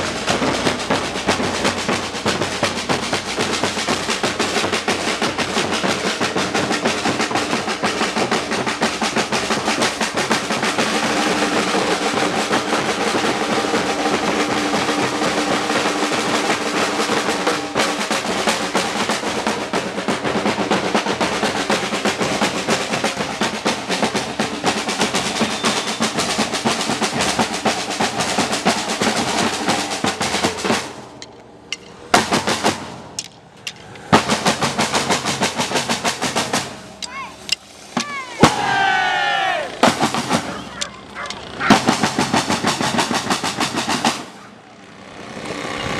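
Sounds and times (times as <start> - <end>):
samba drum ensemble: 0.0 - 33.2, 34.1 - 44.6.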